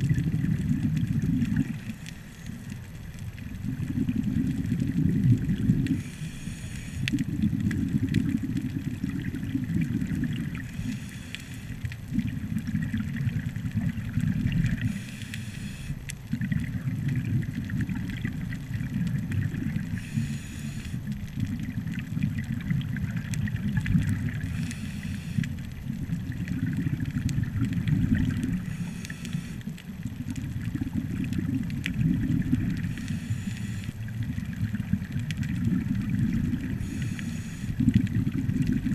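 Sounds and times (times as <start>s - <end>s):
low underwater rumble: 0.0s - 38.9s
regulator breathing hiss and bubbling: 0.0s - 38.9s.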